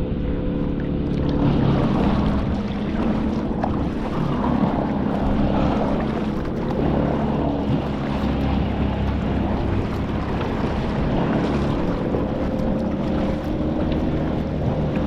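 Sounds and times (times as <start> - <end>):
water moving along hull: 0.0 - 15.0
wind buffeting microphone: 0.0 - 15.0.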